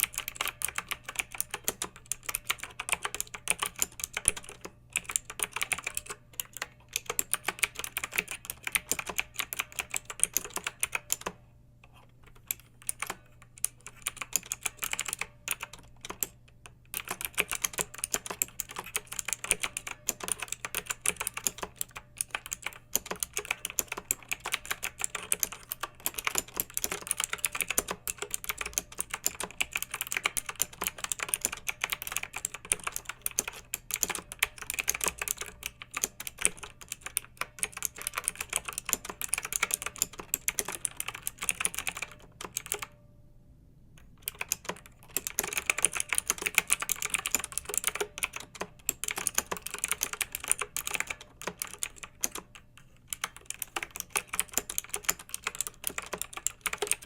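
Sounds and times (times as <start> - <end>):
mechanical keyboard typing: 0.0 - 43.0, 44.0 - 57.0.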